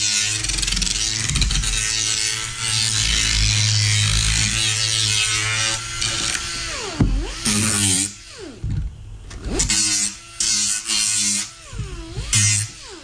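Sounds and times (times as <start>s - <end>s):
power sander motor whine: 0.0s - 13.0s
sander pad scratching wood: 0.0s - 13.0s.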